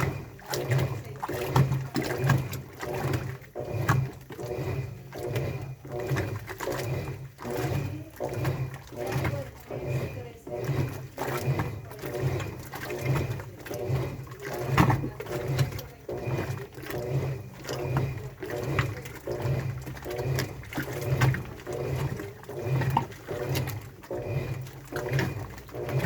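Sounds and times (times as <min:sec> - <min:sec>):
washing machine motor humming: 0:00.0 - 0:26.0.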